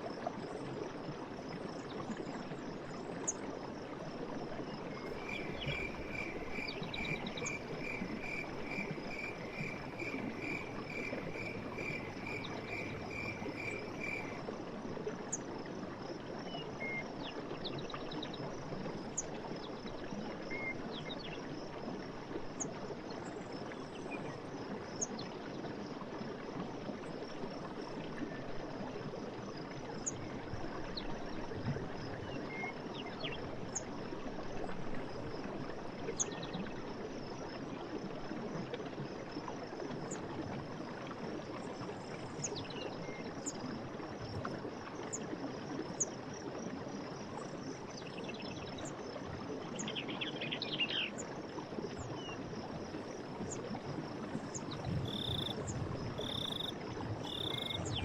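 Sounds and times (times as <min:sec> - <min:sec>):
running stream water: 0:00.0 - 0:58.0.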